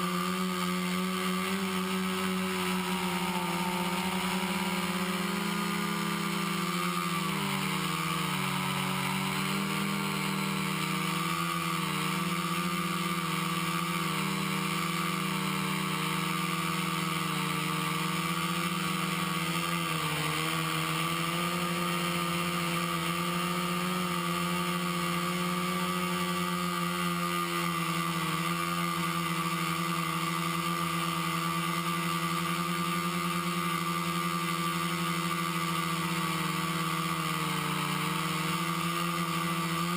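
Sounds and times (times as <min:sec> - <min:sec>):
quadcopter motors droning: 0:00.0 - 0:39.9.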